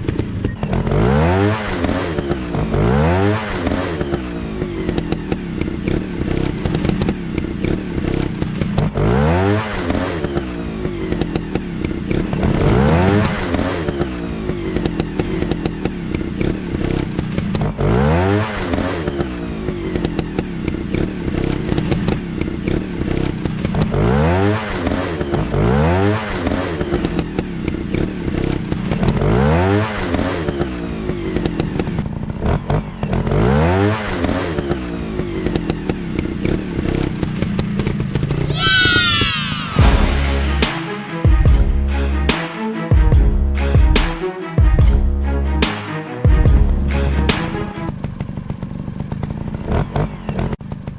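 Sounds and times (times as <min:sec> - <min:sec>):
dirt bike engines accelerating: 0:00.0 - 0:50.9.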